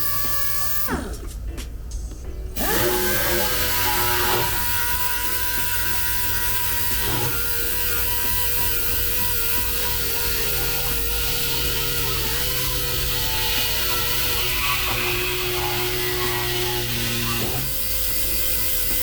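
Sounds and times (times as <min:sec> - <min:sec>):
rotary power tool whining: 0:00.0 - 0:01.2, 0:02.6 - 0:19.0.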